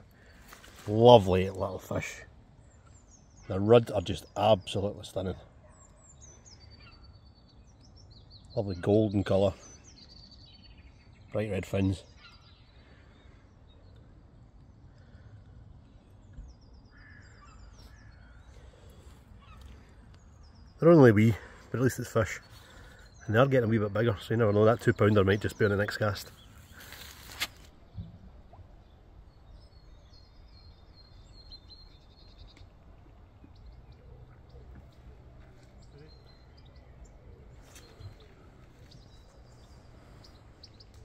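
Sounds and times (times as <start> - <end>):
birds calling: 0.0 - 41.0.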